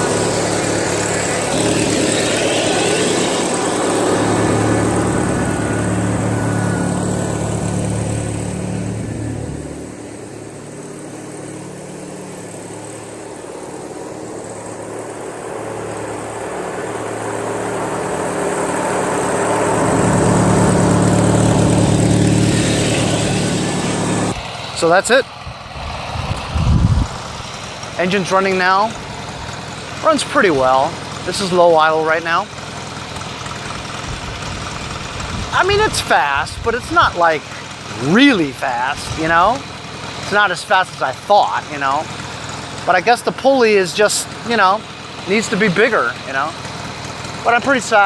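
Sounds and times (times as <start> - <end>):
lawn tractor engine running: 0.0 - 48.0.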